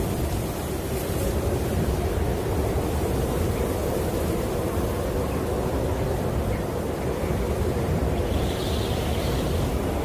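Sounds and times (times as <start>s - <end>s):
deep rushing wind: 0.0s - 10.0s.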